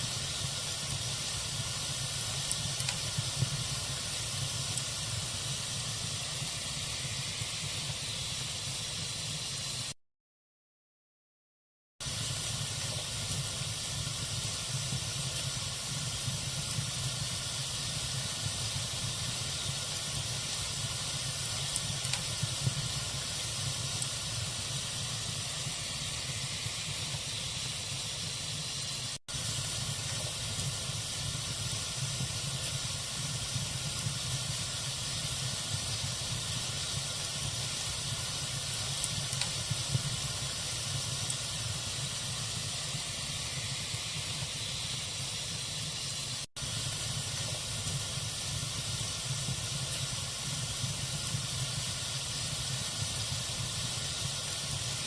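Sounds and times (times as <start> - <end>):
fire crackles and pops: 0.0 - 9.1, 12.0 - 55.0
fire hissing and rumbling: 0.0 - 10.0, 12.0 - 55.0.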